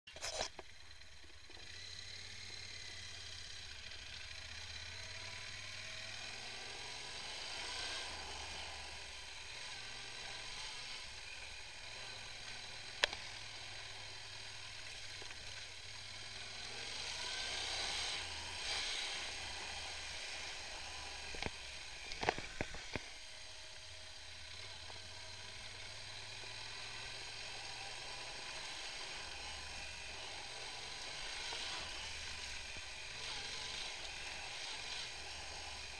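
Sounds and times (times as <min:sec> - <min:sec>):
motorcycle engine running: 0:00.1 - 0:35.9.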